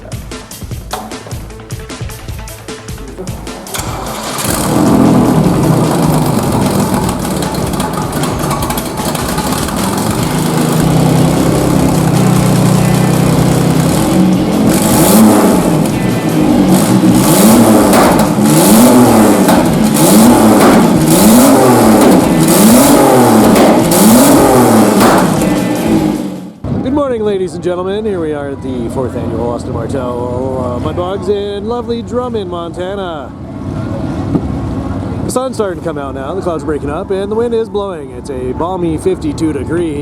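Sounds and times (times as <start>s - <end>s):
car engine idling and revving: 0.0s - 26.7s, 29.6s - 35.4s.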